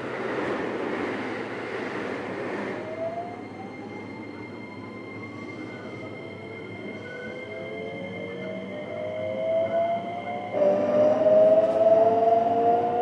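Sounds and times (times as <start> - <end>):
train rolling noise: 0.0 - 13.0.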